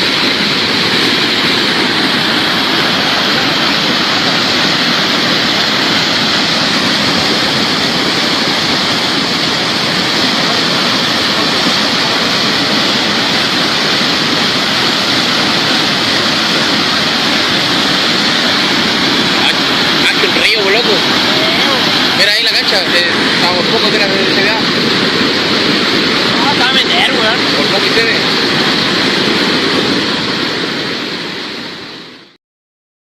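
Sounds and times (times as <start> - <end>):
river floodwater rushing: 0.0 - 32.4.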